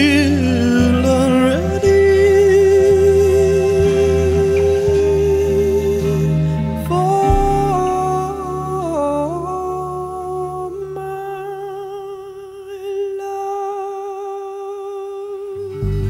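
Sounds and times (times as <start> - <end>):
singer holding wordless note: 0.0 - 15.9
soft musical accompaniment: 0.0 - 16.0.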